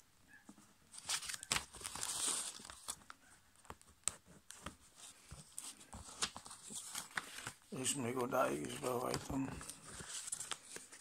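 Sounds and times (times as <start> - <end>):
paper rustling and crinkling: 0.9 - 11.0.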